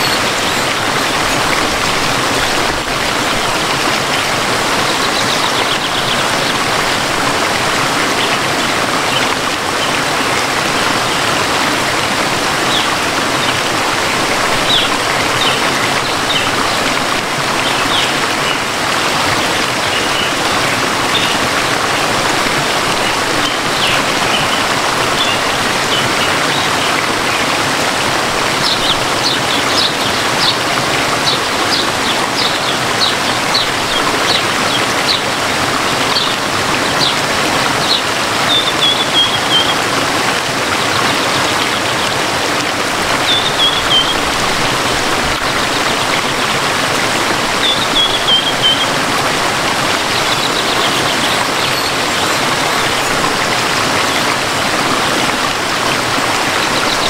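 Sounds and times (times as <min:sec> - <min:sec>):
birds chirping: 0:00.0 - 0:11.8, 0:12.5 - 0:27.6, 0:28.4 - 0:42.3, 0:43.1 - 0:57.0
babbling stream: 0:00.0 - 0:57.0.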